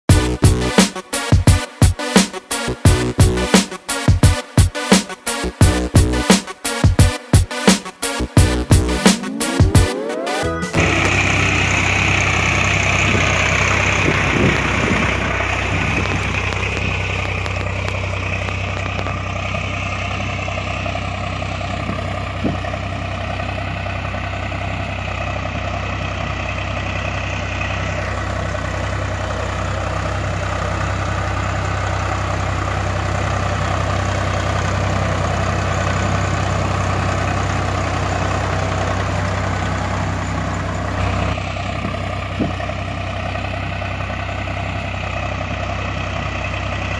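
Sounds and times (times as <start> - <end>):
diesel tractor engine idling: 0.1 - 1.3, 2.0 - 4.0, 4.7 - 46.9.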